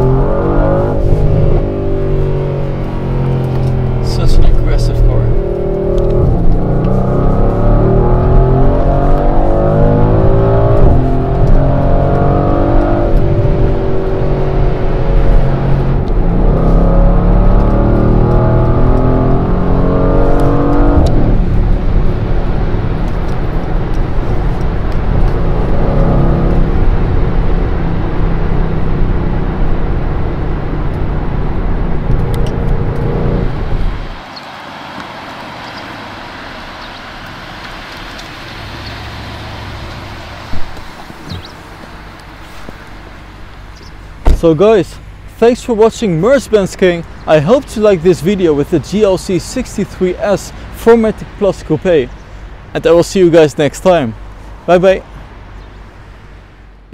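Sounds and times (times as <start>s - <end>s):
car engine accelerating: 0.0s - 56.9s
road and wind noise: 0.0s - 56.9s.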